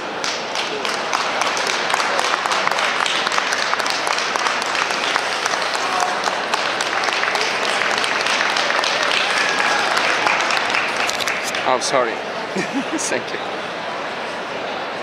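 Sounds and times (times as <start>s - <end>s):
audience applauding: 0.0s - 13.2s
crowd voices: 0.0s - 15.0s.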